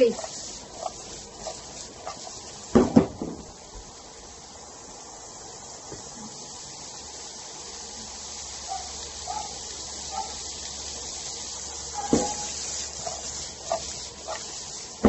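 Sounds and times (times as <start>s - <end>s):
carrots sizzling in oil: 0.0s - 15.0s.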